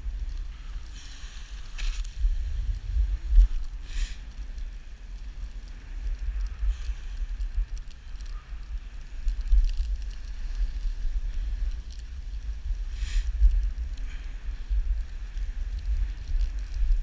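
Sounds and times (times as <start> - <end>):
low rumble of wind and sled: 0.0 - 17.0
sled crackling on snow: 0.0 - 17.0.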